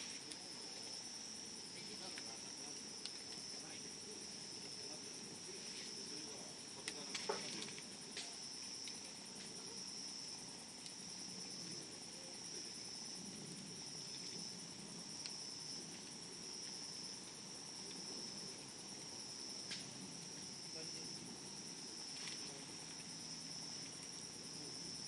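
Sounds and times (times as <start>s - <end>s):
campfire crackles and pops: 0.0s - 25.0s
high insect trill: 0.0s - 25.0s.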